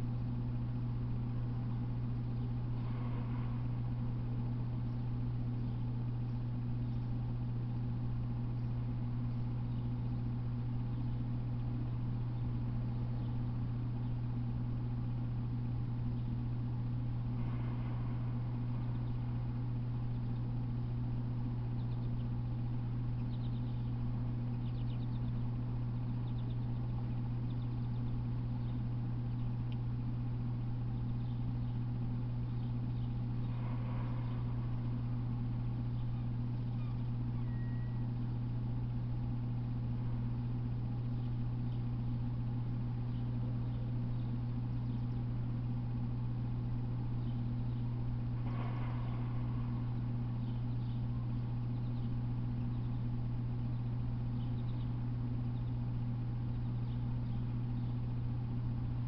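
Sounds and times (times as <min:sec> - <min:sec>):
faint bird chirps: 0:00.0 - 0:59.0
steady low hum: 0:00.0 - 0:59.0.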